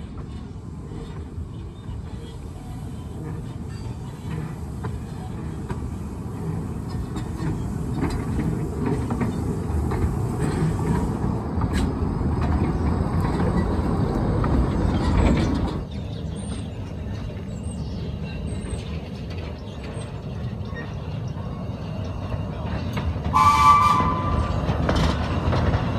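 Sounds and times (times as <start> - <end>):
train rumbling on track: 0.0 - 25.9
wheels and couplings clanking: 0.0 - 25.9.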